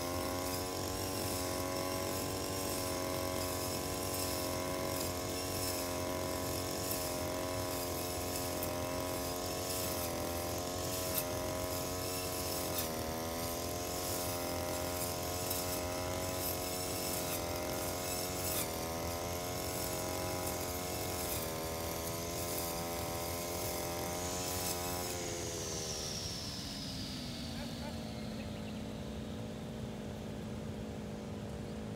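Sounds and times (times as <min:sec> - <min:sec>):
brush cutter engine cutting grass: 0:00.0 - 0:31.9.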